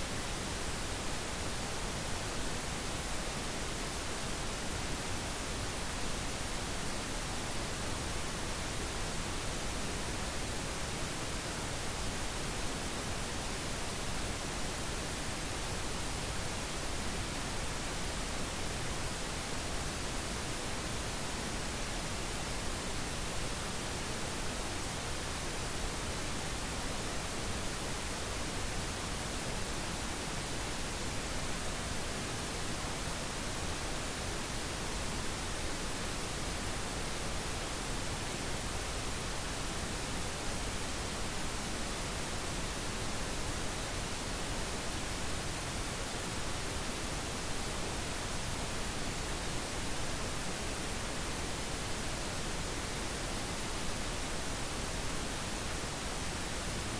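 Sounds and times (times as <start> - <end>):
pink noise hiss: 0.0 - 56.9.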